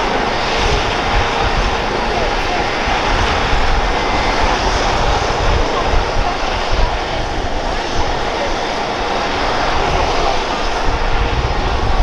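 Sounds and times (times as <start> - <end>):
helicopter engines and rotor: 0.0 - 12.0.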